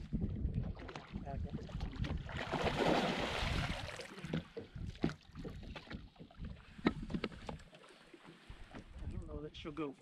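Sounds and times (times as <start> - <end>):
water splashing: 0.7 - 8.9.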